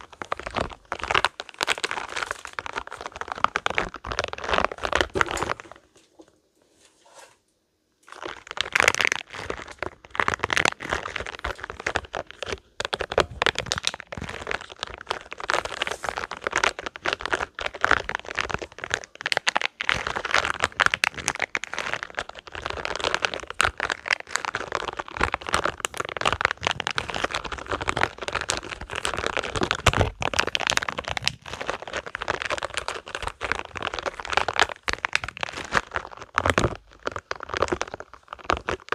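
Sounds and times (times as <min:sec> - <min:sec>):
rubber balls crackling and crinkling: 0:00.0 - 0:38.9.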